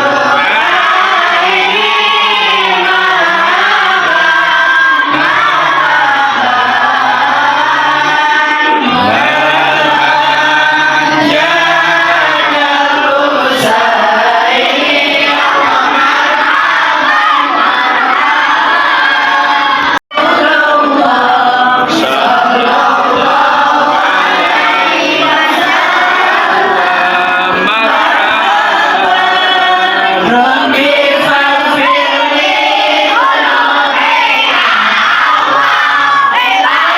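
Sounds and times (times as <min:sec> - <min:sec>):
group chanting in unison: 0:00.0 - 0:36.9.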